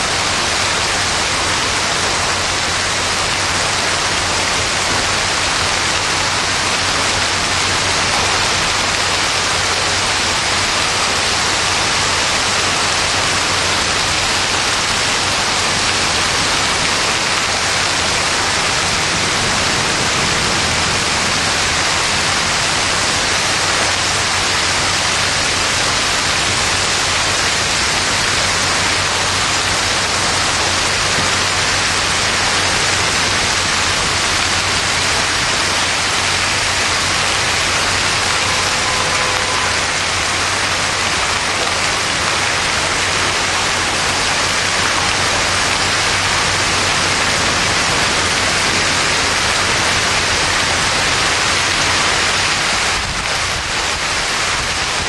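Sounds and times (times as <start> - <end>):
heavy rain and hail on pavement: 0.0 - 55.0.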